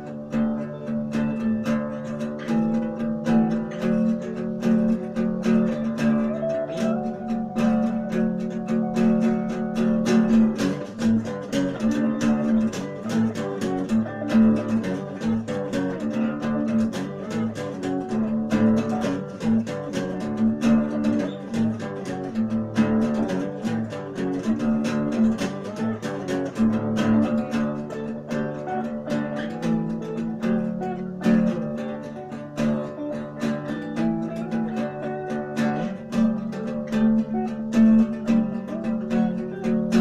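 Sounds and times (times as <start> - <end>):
acoustic guitar picked and strummed: 0.0 - 40.0.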